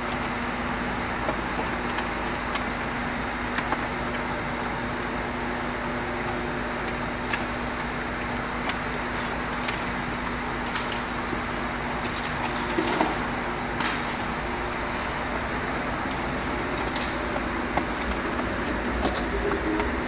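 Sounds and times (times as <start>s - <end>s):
car cabin hum and hiss: 0.0s - 20.0s.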